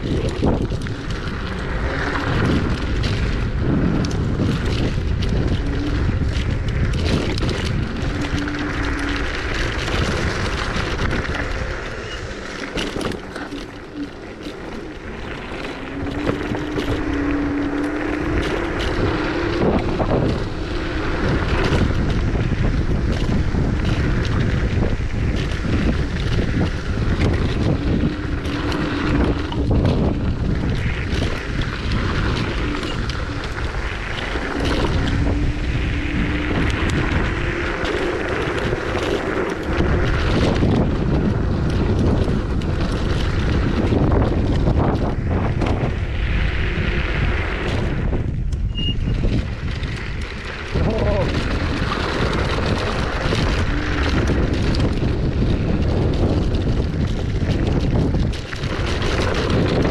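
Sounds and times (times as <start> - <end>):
electric motor whine: 0.0 - 59.9
tyre rumble on gravel: 0.0 - 59.9
wind on microphone: 0.0 - 59.9.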